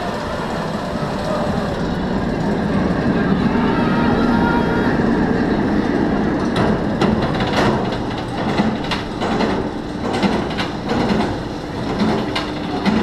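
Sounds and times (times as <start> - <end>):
roller coaster wheels rumbling: 0.0 - 13.0.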